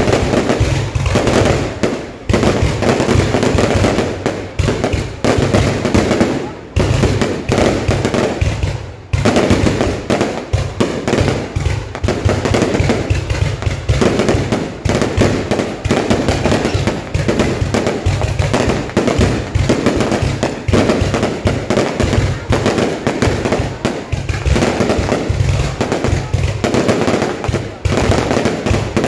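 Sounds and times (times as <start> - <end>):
fireworks explosions: 0.0 - 29.0.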